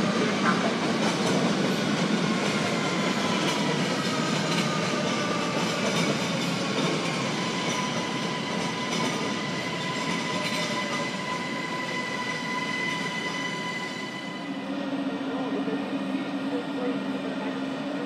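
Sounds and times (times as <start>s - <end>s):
rail noise: 0.0s - 18.0s.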